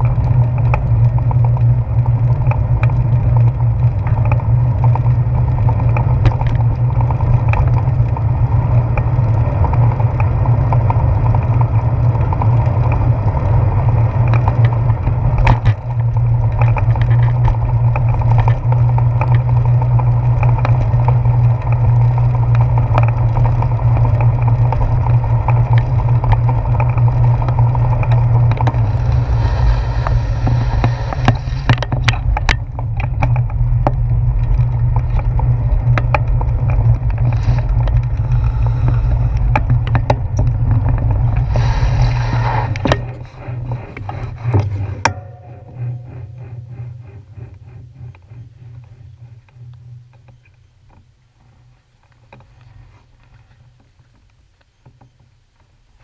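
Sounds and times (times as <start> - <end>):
tyre noise on wet pavement: 0.0 - 45.7
bicycle clicks and knocks over bumps: 0.0 - 56.0.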